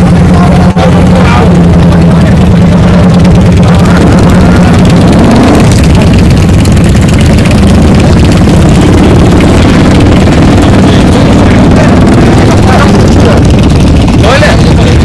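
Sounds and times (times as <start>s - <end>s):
muscle car engine revving: 0.0s - 15.0s.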